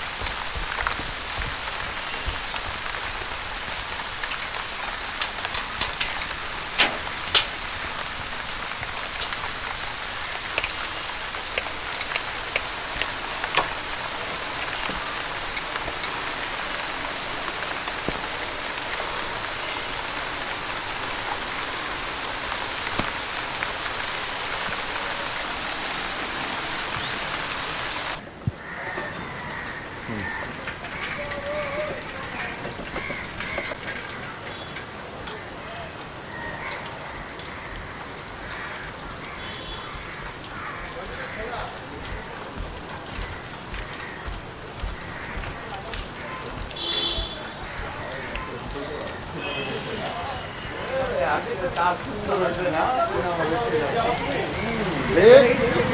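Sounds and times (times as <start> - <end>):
raindrops ticking close by: 0.0 - 55.9
steady rain hiss: 0.0 - 55.9.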